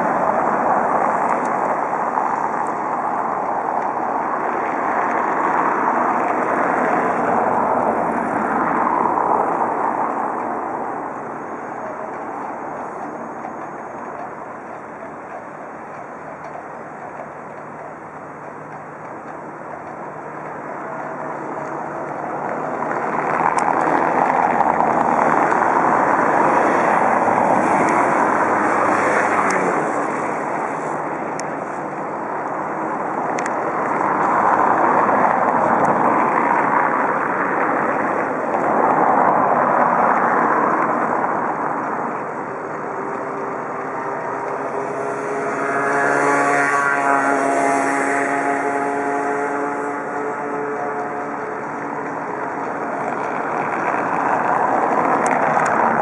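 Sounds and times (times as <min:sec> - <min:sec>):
vehicles rushing past: 0:00.0 - 0:56.0.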